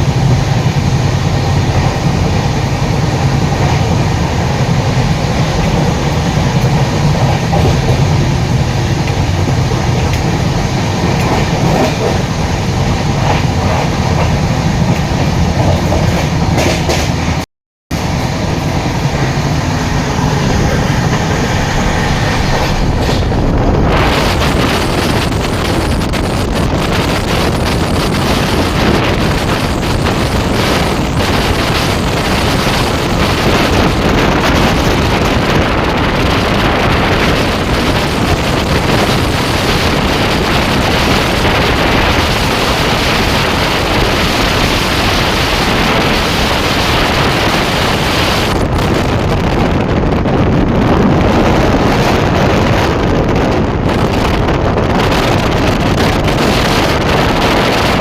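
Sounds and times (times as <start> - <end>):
train wheel and track noise: 0.0 - 58.0
wind buffeting microphone: 0.0 - 58.0.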